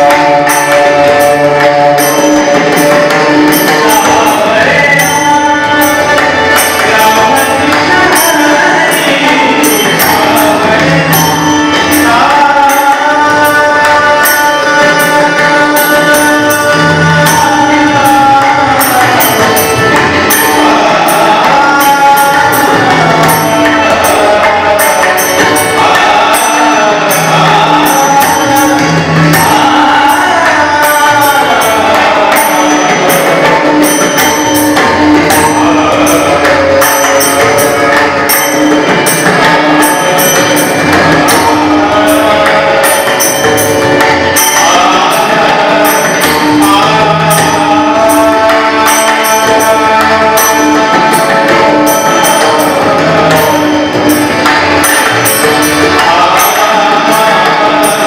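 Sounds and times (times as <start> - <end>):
devotional singing: 0.0 - 58.0
hand drums playing: 0.0 - 58.0
harmonium: 0.0 - 58.0.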